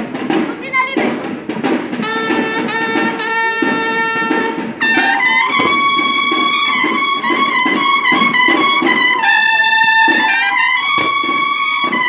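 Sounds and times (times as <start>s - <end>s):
snare drums beating: 0.0s - 12.0s
bugles holding long notes: 2.0s - 12.0s.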